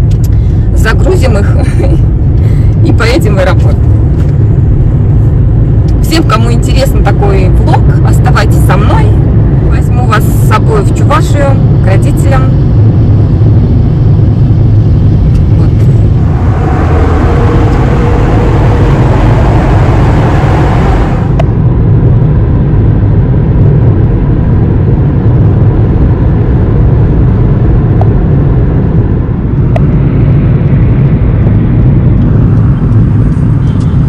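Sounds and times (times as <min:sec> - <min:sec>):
engine and tyre rumble: 0:00.0 - 0:34.0.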